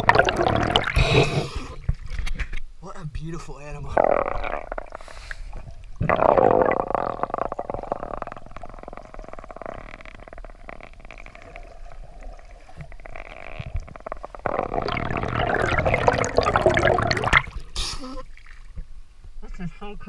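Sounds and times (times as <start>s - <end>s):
muffled underwater rumbling: 0.0s - 2.3s, 3.8s - 17.8s.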